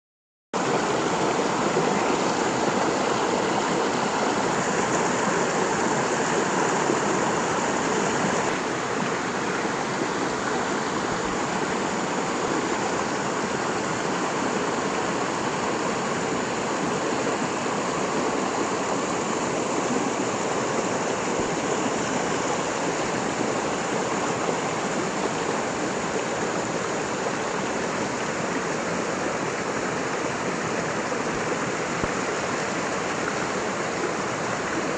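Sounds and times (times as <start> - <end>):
waterfall rushing: 0.6 - 34.9.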